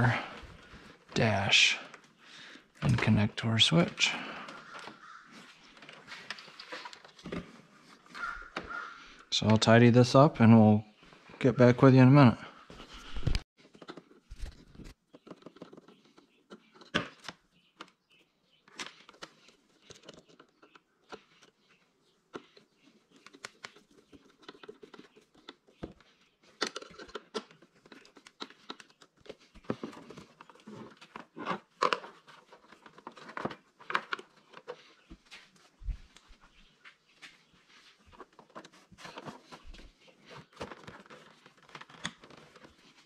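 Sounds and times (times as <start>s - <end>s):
wires rustling and crinkling: 0.0s - 9.6s, 12.7s - 43.0s.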